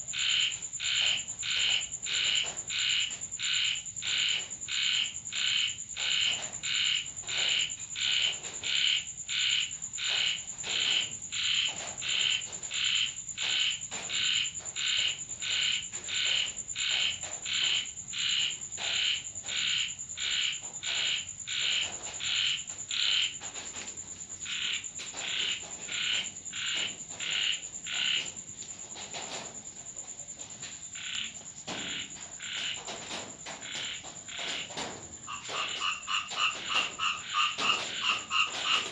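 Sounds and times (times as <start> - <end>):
frog croaking: 0.0 - 23.8, 24.4 - 28.4, 30.9 - 38.9.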